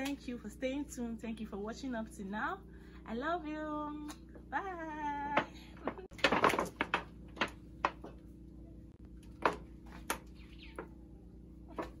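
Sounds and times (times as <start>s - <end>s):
steady low hum: 0.0s - 6.2s, 6.8s - 12.0s.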